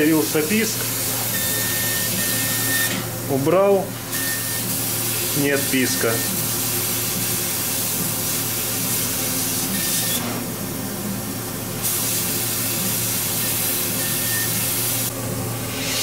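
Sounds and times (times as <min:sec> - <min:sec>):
laser engraver hissing: 0:00.0 - 0:03.0, 0:03.6 - 0:10.4, 0:11.8 - 0:15.1
low machine hum: 0:00.0 - 0:16.0.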